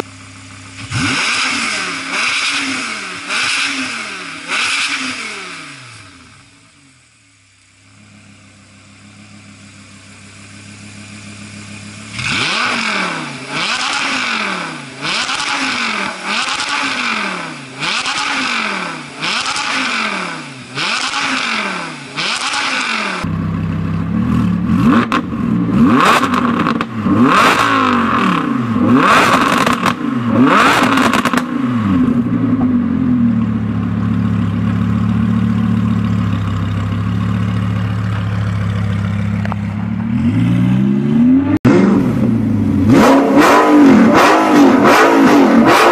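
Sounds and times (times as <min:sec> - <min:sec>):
second car engine revving: 0:00.0 - 0:06.9, 0:07.9 - 0:45.9
sports car engine revving: 0:00.0 - 0:06.9, 0:07.8 - 0:45.9.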